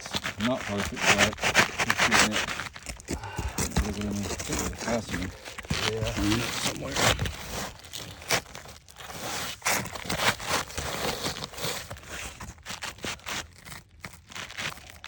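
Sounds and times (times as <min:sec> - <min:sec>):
shingles scraping and crunching: 0:00.0 - 0:15.0.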